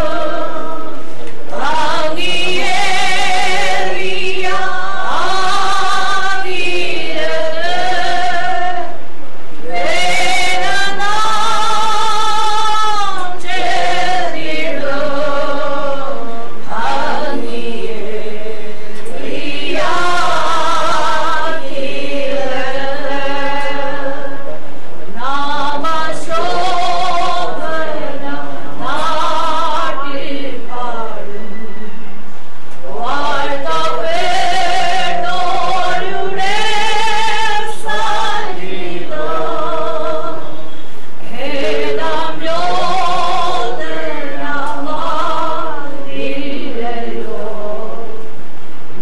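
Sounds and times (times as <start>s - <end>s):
group singing a hymn unaccompanied: 0.0s - 32.0s, 32.7s - 48.3s.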